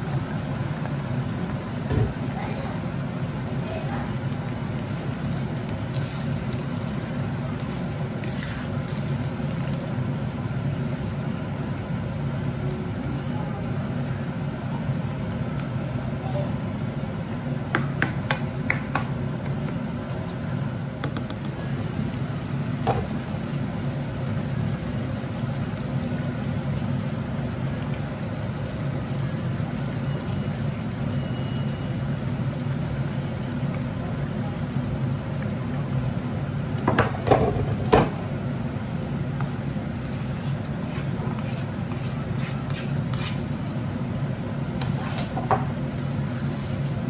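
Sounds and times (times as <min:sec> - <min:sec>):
food sizzling and bubbling: 0:00.0 - 0:47.0.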